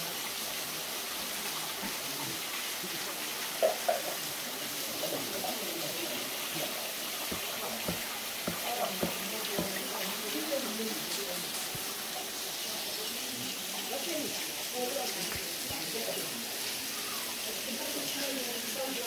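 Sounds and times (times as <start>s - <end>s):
faint background voices: 0.0s - 19.0s
small waterfall rushing: 0.0s - 19.0s.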